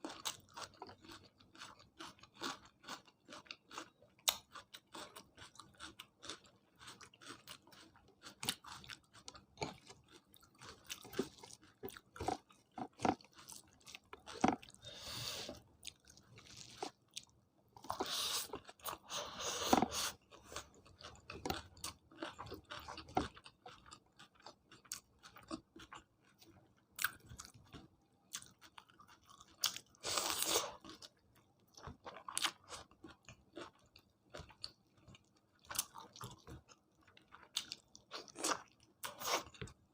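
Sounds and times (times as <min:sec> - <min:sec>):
chewing with mouth clicks: 0:00.0 - 0:14.8, 0:15.5 - 0:39.8.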